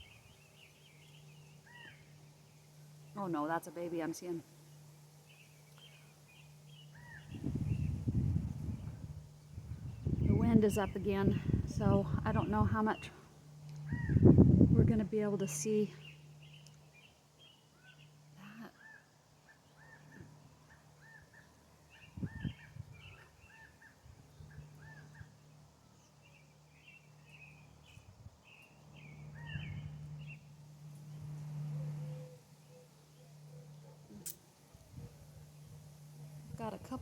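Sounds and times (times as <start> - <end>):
birds chirping: 0.0 - 37.0
low steady hum: 0.0 - 37.0.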